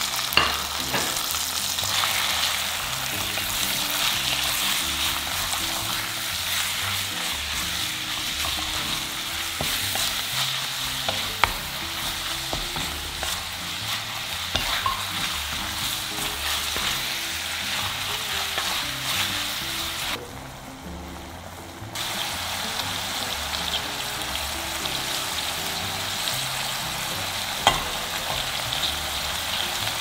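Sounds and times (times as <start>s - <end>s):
meat and garlic sizzling: 0.0s - 30.0s.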